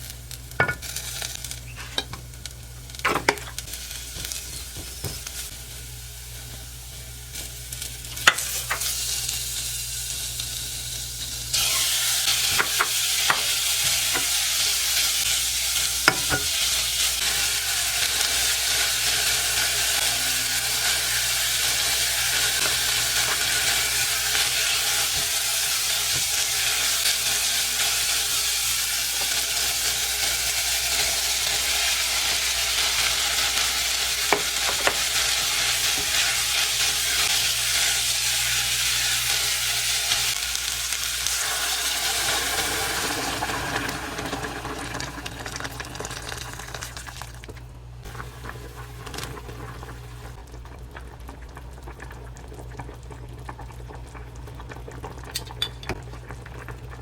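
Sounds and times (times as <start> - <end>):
food sizzling in a hot pan: 0.0 - 47.4.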